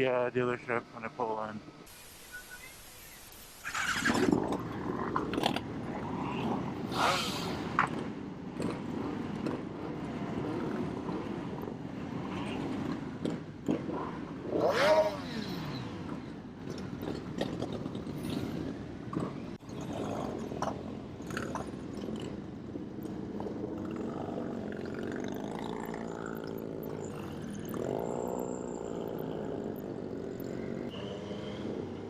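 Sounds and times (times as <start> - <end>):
motorcycle engine at speed: 3.8 - 32.0.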